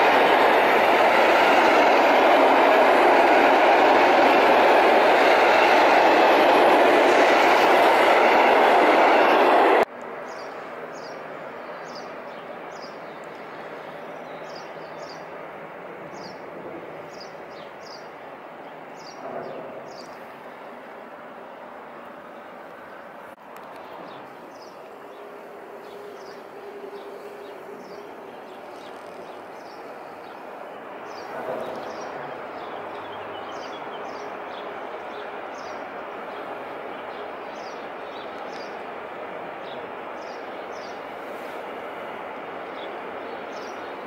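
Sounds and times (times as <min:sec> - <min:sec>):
train rolling rush with whine: 0:00.0 - 0:44.0.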